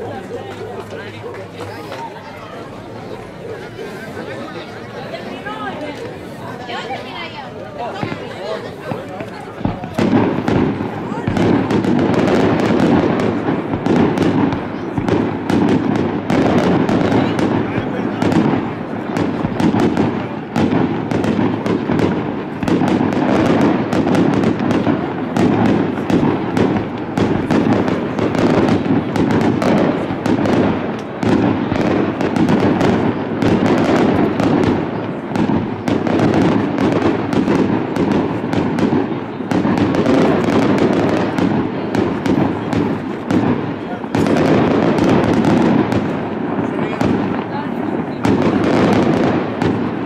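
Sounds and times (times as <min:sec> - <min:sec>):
fireworks bangs and cracks: 0:00.0 - 0:50.0.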